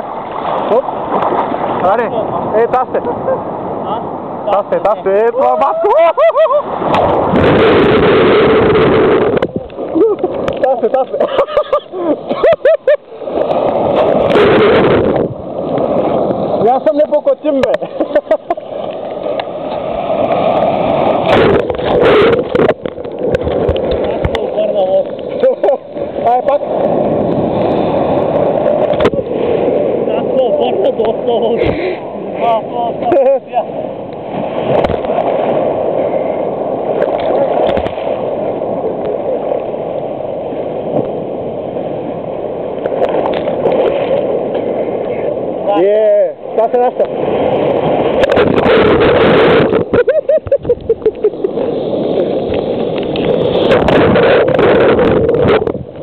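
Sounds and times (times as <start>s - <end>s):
surf rushing and churning: 0.0s - 56.0s.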